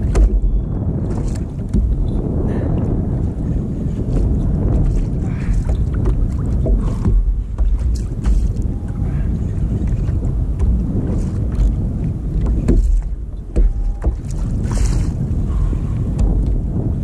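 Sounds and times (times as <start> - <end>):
water slapping kayak hull: 0.0 - 17.0
wind buffeting microphone: 0.0 - 17.0.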